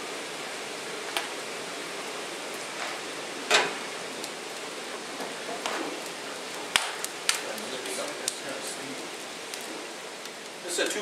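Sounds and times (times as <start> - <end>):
sap boiling hiss: 0.0 - 11.0.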